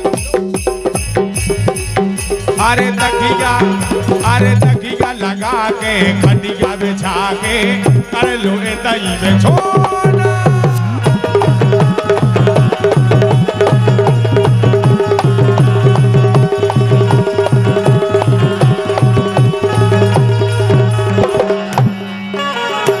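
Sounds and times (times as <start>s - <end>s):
fast hand drum rhythm: 0.0s - 22.2s
sustained instrumental melody: 0.0s - 23.0s.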